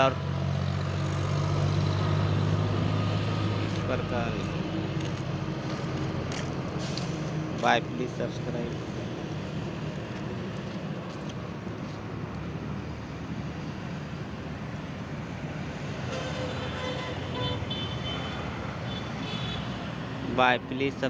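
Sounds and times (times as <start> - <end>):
distant road traffic: 0.0 - 21.0.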